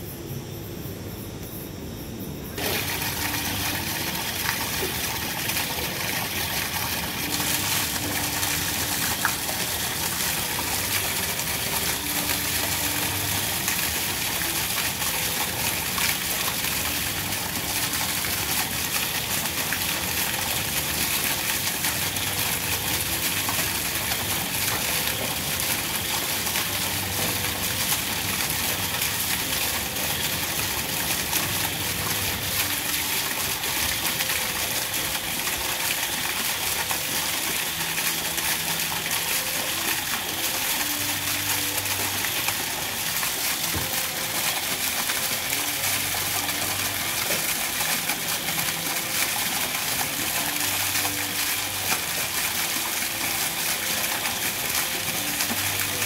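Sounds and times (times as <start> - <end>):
fountain splashing water: 2.6 - 56.0.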